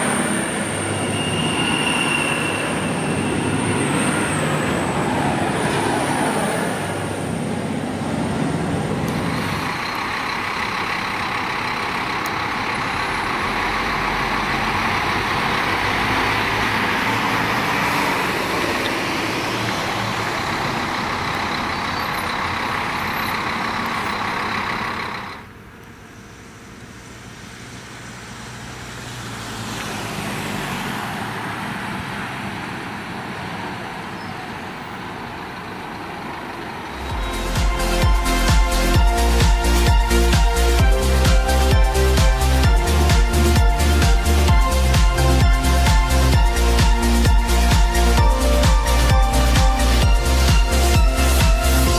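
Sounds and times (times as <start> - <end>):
bus passing: 0.0 - 51.9
diesel bus engine running: 0.0 - 51.9.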